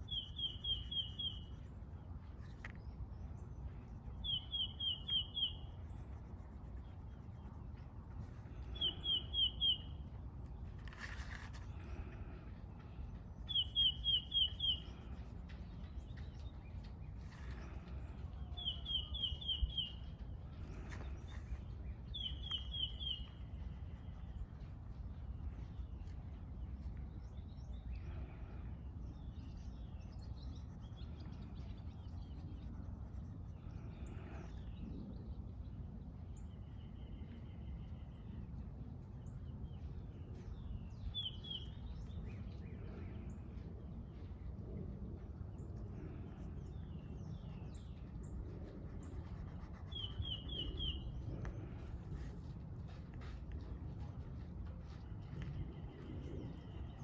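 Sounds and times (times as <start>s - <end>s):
songbird trills: 0.0s - 44.3s, 45.5s - 57.0s
low outdoor rumble: 0.0s - 57.0s.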